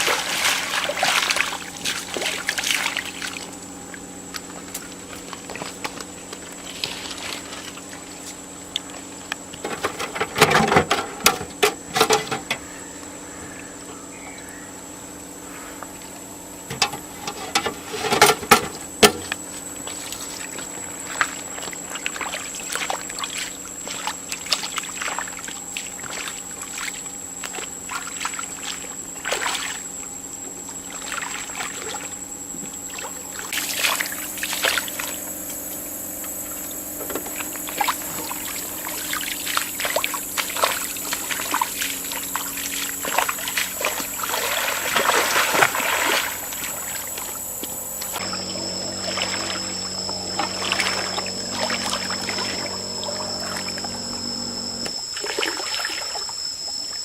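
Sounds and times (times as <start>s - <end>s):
water splashing and sloshing: 0.0s - 11.1s, 15.9s - 56.4s
mechanical hum: 0.0s - 57.0s.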